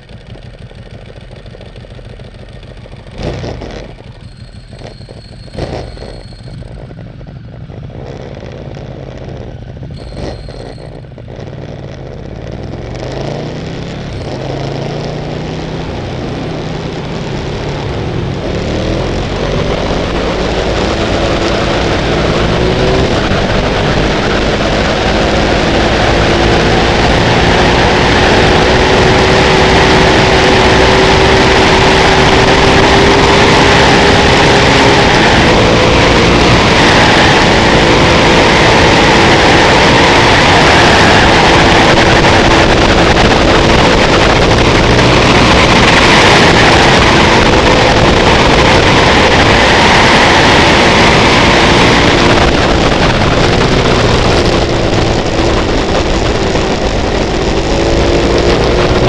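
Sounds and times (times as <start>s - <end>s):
motorcycle engine accelerating: 0.0s - 59.0s
wind and road noise: 0.0s - 59.0s.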